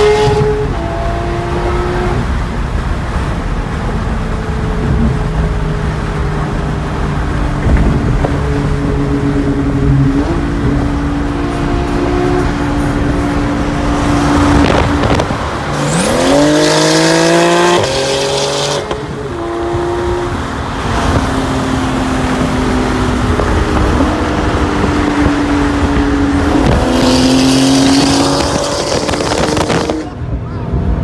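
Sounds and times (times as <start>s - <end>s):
sports car exhaust revving: 0.0s - 30.2s
road and wind noise: 0.0s - 31.0s.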